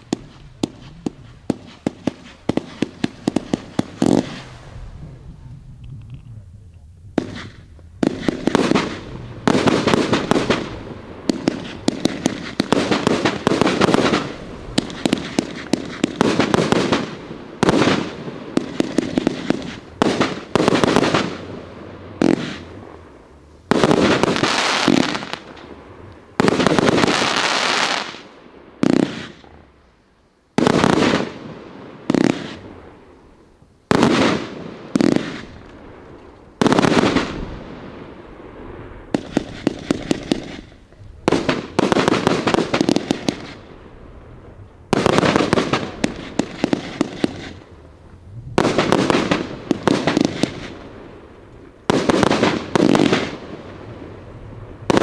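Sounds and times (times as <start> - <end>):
fireworks firing and crackling: 0.0 - 29.9, 30.5 - 55.0.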